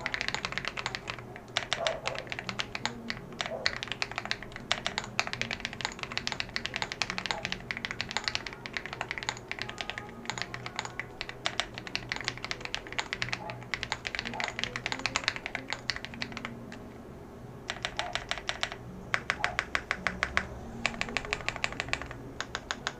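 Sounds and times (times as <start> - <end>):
fast typing on mechanical keyboard: 0.0 - 16.9, 17.7 - 22.9.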